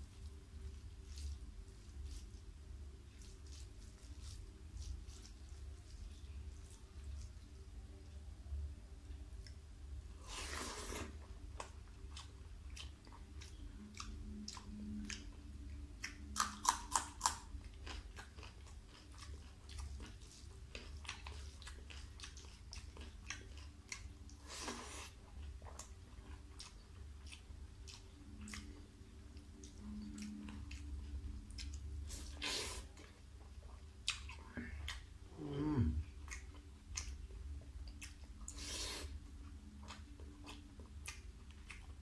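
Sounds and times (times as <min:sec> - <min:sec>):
person chewing with wet mouth sounds: 0:00.0 - 0:08.2, 0:09.1 - 0:42.0
steady low hum: 0:00.0 - 0:42.0.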